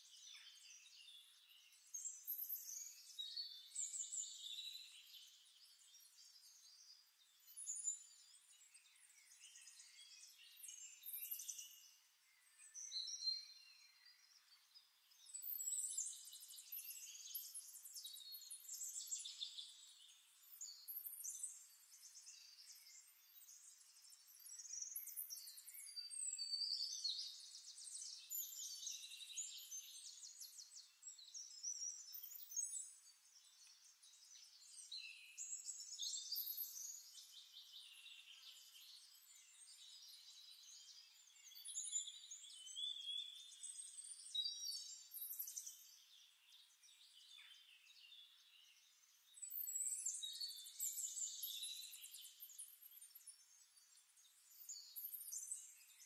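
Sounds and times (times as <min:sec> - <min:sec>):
bird chirps and twitters: 0:00.1 - 0:56.0.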